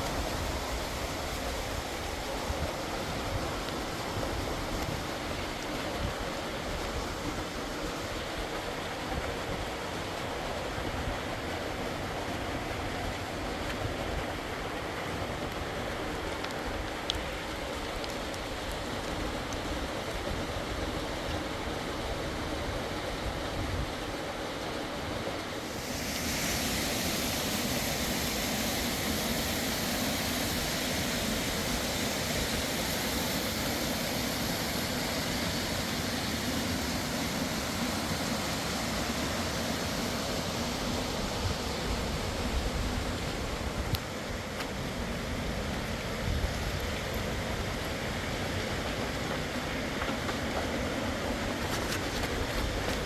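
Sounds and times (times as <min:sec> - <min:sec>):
rushing river water: 0:00.0 - 0:53.0.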